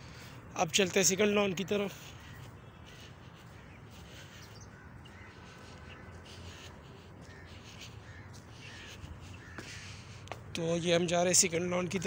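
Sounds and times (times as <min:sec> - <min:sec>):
crows cawing: 0:00.0 - 0:10.5
steady outdoor background: 0:00.0 - 0:12.0.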